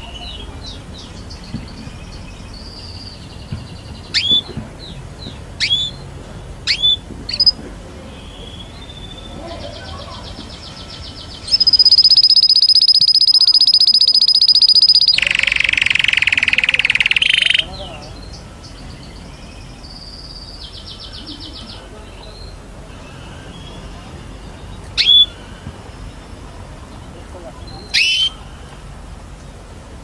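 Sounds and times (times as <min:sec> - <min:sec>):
canary singing: 0:00.0 - 0:26.1, 0:27.7 - 0:28.5.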